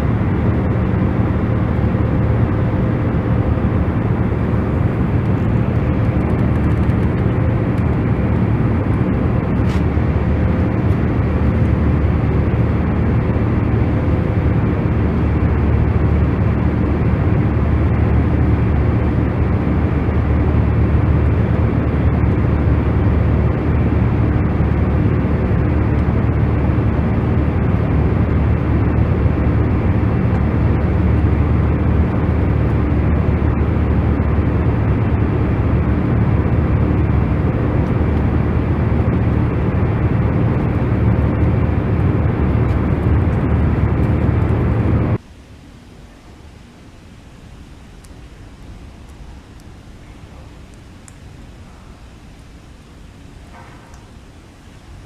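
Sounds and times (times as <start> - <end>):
faint steady hum: 0.0 - 55.0
low rumbling white noise: 0.0 - 55.0.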